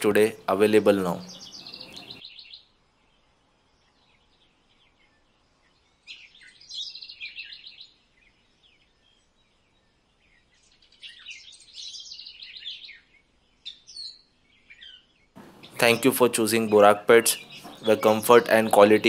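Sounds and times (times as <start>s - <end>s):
small birds twittering: 0.0s - 19.0s.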